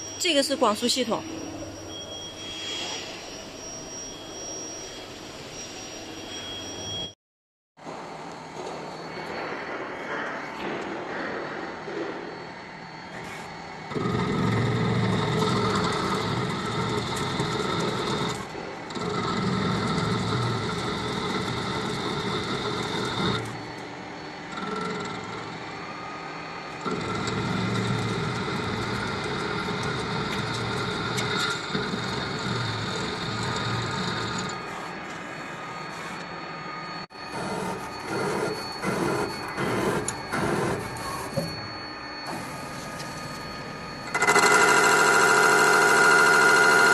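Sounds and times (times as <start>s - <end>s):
lathe mechanical whine: 0.0s - 7.2s, 7.9s - 46.9s.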